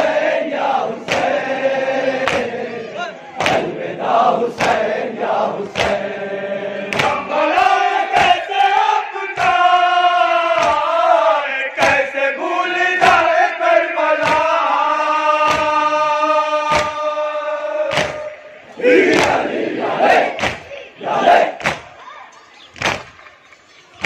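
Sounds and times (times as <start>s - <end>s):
men chanting a lament: 0.0s - 21.7s.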